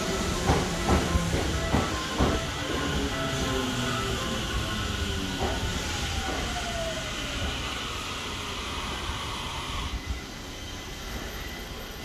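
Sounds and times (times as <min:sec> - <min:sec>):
train motor whine: 0:00.0 - 0:12.0
train rumble and hiss: 0:00.0 - 0:12.0
train stopping clunk: 0:00.0 - 0:12.0.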